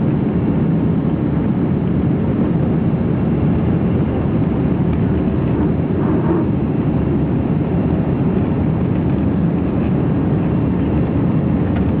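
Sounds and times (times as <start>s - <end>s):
jet engines during takeoff: 0.0s - 12.0s.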